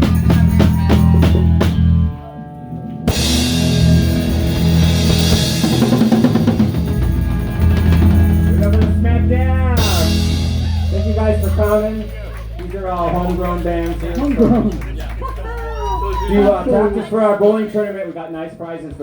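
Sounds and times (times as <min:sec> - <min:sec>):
drum kit: 0:00.0 - 0:02.2, 0:03.0 - 0:16.8
electric guitar chords: 0:00.0 - 0:17.2
bass chords: 0:00.0 - 0:17.6.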